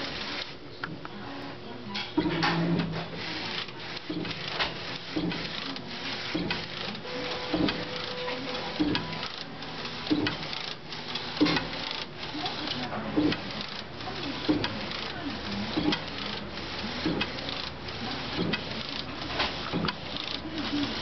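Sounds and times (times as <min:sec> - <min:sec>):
printer carriage moving back and forth: 0:00.0 - 0:01.0, 0:02.0 - 0:21.0.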